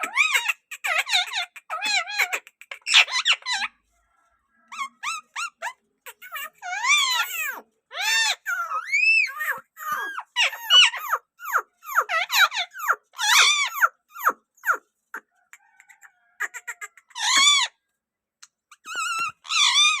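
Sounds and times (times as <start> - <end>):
parakeet chirping calls: 0.0 - 3.7, 4.7 - 17.7, 18.7 - 20.0.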